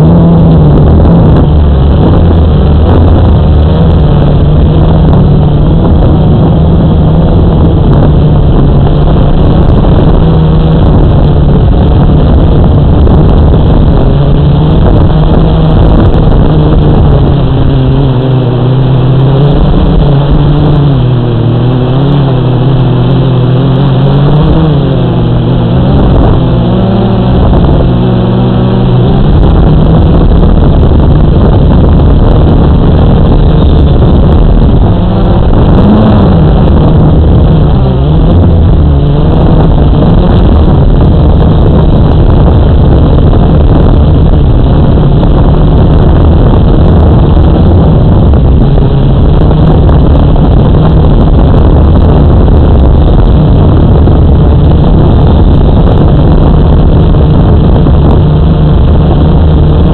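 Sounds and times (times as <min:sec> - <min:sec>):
drone motors and propellers: 0:00.0 - 0:59.9.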